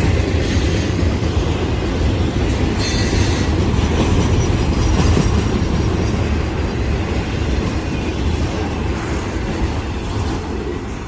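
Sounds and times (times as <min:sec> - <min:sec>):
steel wheels clattering on rails: 0:00.0 - 0:11.0.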